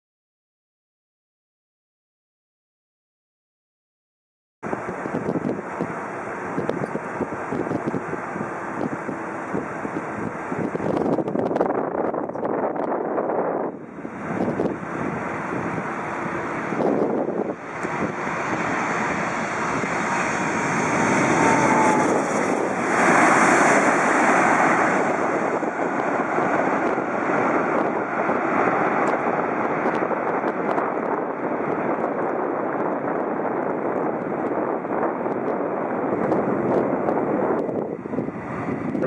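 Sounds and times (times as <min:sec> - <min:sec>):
jet engine noise: 0:04.6 - 0:39.0
wind buffeting microphone: 0:04.6 - 0:39.0.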